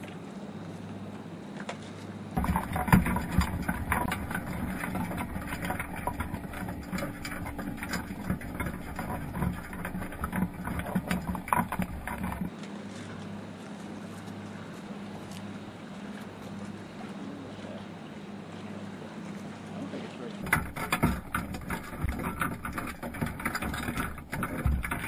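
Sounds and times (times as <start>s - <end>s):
crabs clicking and scraping underwater: 0.0s - 25.0s.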